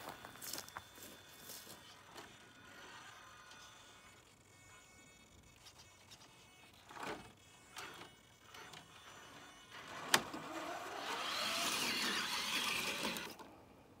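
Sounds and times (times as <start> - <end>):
toy truck motor whirring: 0.0 - 13.6.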